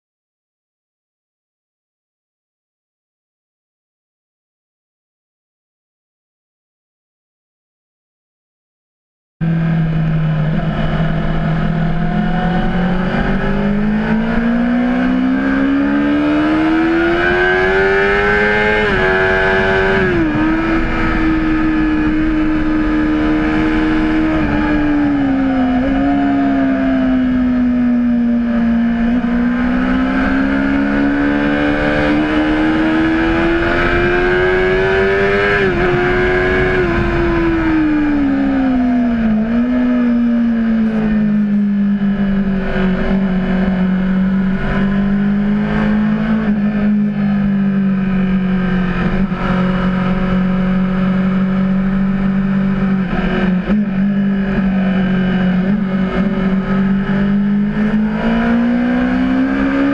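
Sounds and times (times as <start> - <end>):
motorcycle engine revving: 9.4 - 59.9.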